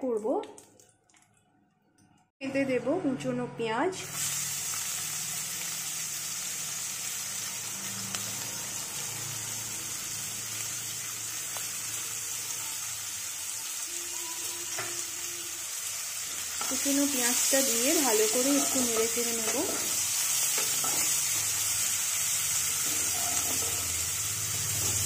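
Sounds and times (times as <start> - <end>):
onions sizzling in hot oil: 4.0 - 25.0.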